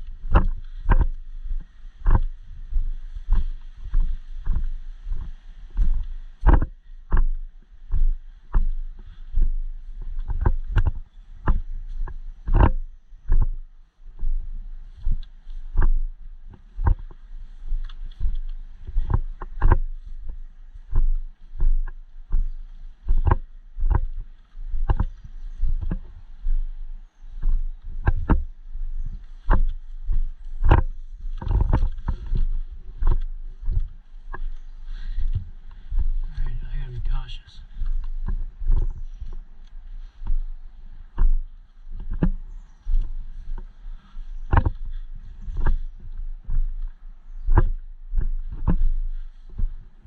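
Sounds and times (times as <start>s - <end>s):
clothing and gear rustling: 0.0s - 50.0s
footsteps walking: 0.0s - 50.0s.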